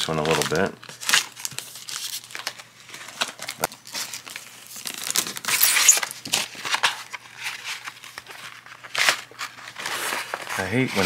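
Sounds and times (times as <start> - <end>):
packaging crinkles and scrapes: 0.0 - 11.0
paper envelope tearing: 0.0 - 11.0.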